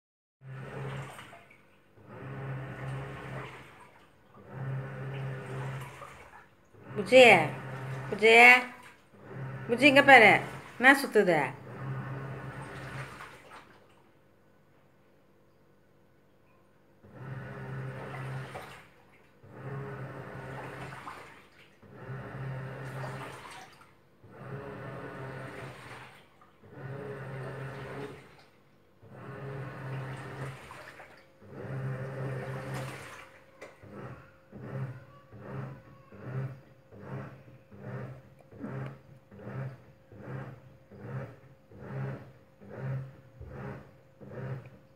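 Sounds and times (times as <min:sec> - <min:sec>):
water sloshing in drum: 0:00.4 - 0:14.7, 0:16.9 - 0:44.9
washing machine motor humming: 0:00.4 - 0:44.9.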